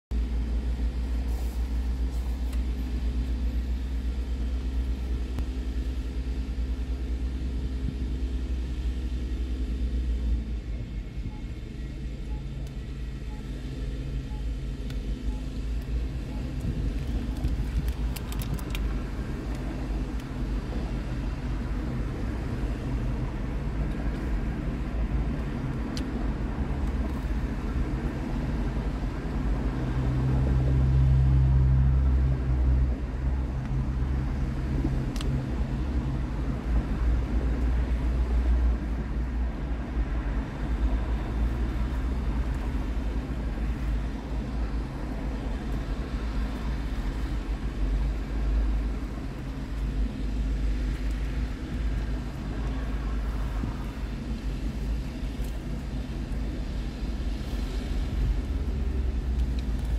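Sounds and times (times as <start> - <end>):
car engine rumble from cabin: 0.1 - 59.9.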